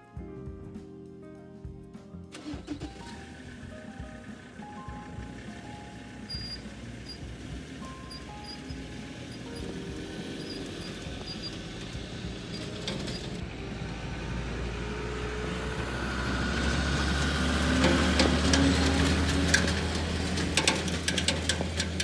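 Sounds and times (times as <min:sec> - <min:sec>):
vehicle engine humming: 0:02.3 - 0:22.0.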